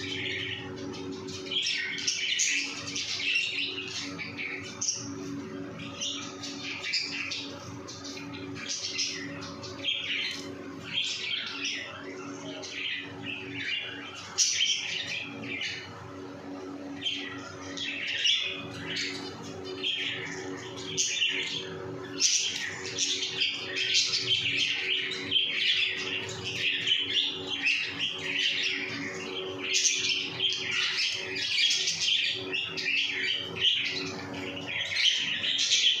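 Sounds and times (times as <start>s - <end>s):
small birds chirping: 0.0s - 36.0s
steady low hum: 0.0s - 36.0s.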